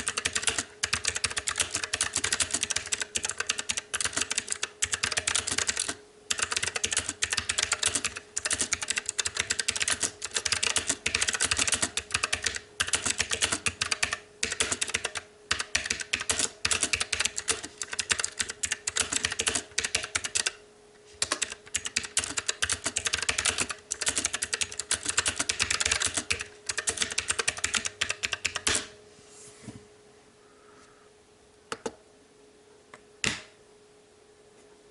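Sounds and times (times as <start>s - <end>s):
mechanical keyboard typing: 0.0s - 20.6s, 21.2s - 28.9s.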